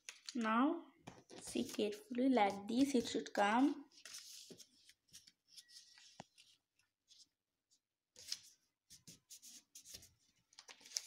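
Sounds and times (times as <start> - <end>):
paper being folded by hand: 1.2 - 11.0.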